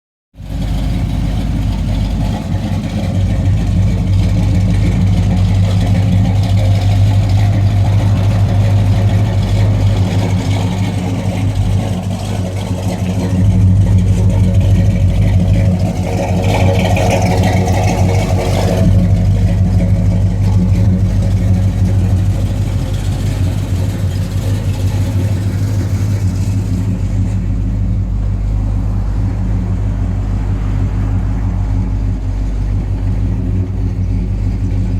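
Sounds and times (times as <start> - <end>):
car engine idling: 0.3 - 34.9.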